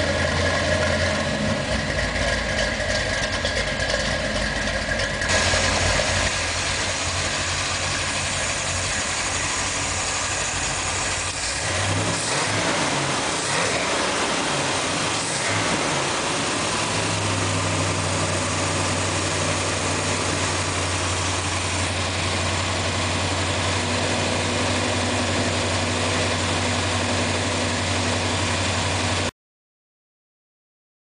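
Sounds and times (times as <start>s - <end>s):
car engine idling: 0.0s - 29.3s.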